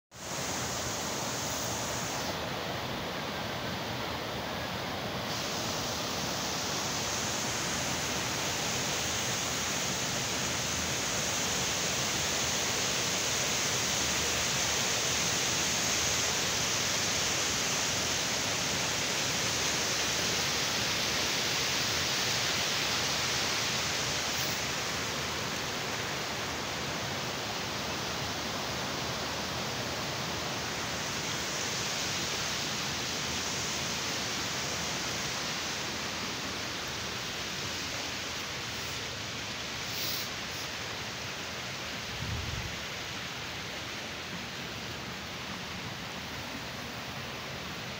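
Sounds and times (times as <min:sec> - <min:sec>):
stream rushing over rocks: 0:00.2 - 0:47.9.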